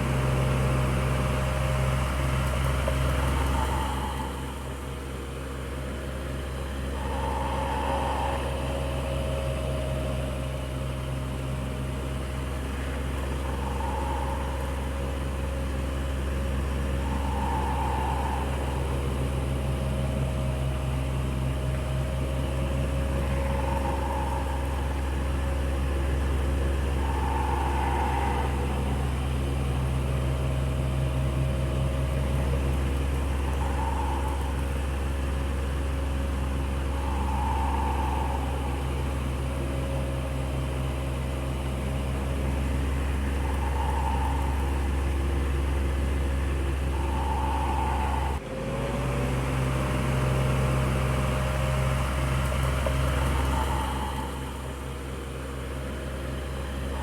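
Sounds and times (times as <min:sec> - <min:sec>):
electric fan running: 0:00.0 - 0:48.4.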